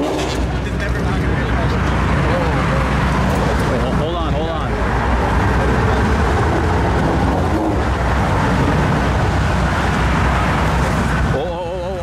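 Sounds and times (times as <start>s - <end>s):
car engines rumbling: 0.0s - 12.0s
cars passing road noise: 0.0s - 12.0s.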